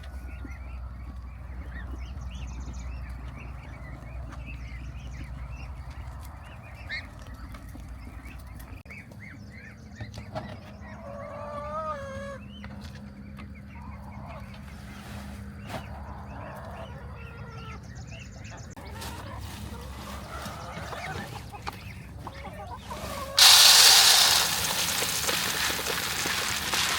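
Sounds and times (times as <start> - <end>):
chickens calling: 0.0 - 15.0, 15.6 - 26.9.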